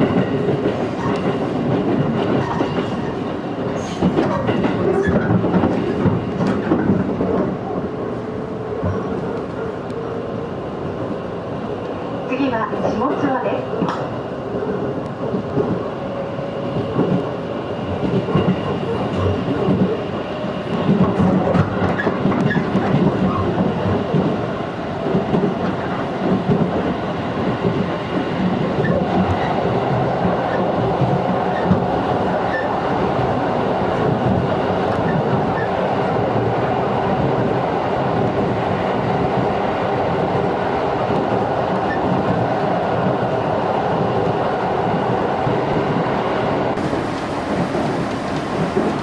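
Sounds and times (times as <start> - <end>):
clickety-clack of rail joints: 0.0 - 10.2, 11.8 - 49.0
train wheels rumbling on rail: 0.0 - 49.0.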